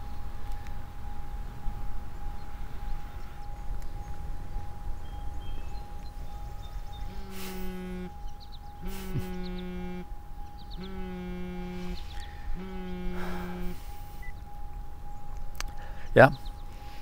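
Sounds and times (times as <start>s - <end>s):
faint high hum: 0.0s - 17.0s
low electronic tone: 1.0s - 17.0s.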